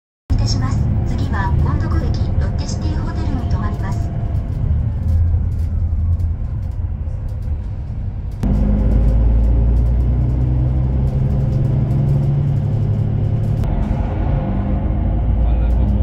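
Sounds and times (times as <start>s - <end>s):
bus engine and road noise: 0.3s - 16.0s.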